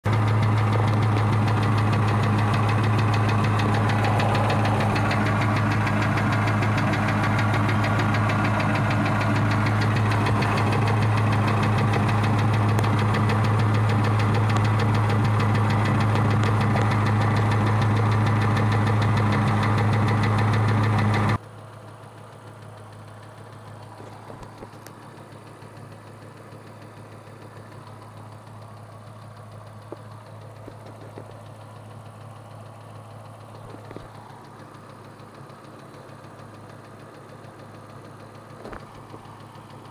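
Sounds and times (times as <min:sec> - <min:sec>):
car engine idling: 0:00.0 - 0:39.9
rapid valvetrain ticking: 0:00.1 - 0:39.9.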